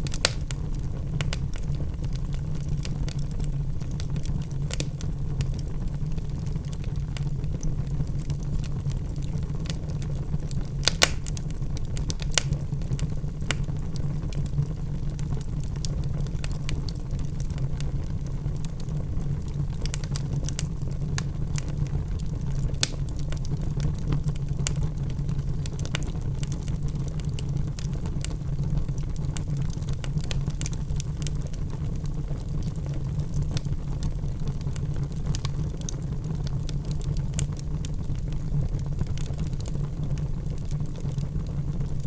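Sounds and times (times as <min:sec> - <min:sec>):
fire crackling and popping: 0:00.0 - 0:42.0
fire rumbling: 0:00.0 - 0:42.0.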